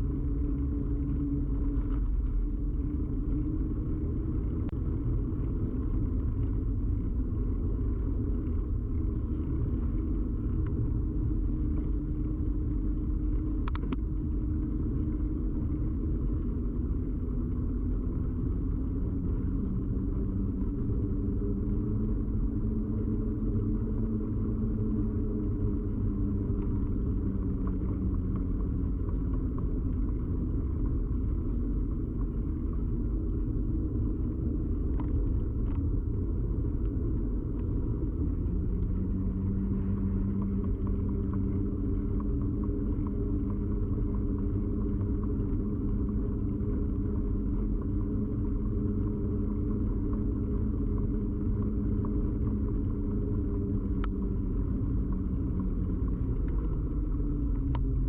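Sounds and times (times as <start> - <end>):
bicycle ride rumble: 0.0 - 58.0
faint ticks: 0.0 - 58.0.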